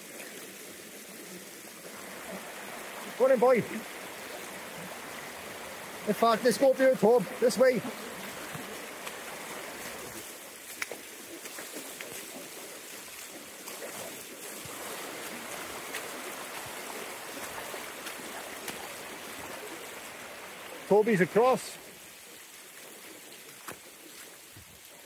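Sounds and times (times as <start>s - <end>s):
river rushing over stones: 0.0s - 25.0s.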